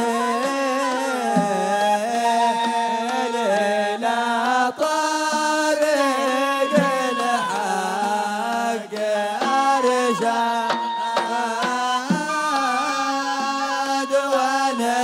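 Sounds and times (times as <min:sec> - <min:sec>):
men chanting a gliding melody: 0:00.0 - 0:15.0.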